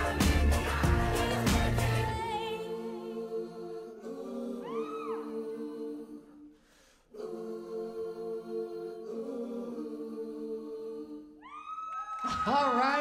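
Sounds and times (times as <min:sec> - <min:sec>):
held chord of sustained voices: 0:00.0 - 0:11.5.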